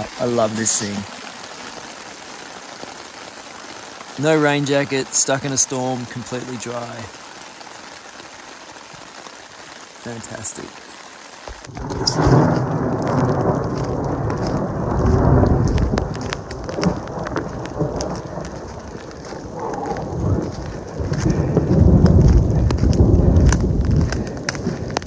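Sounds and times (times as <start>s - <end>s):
rain: 0.0s - 25.0s.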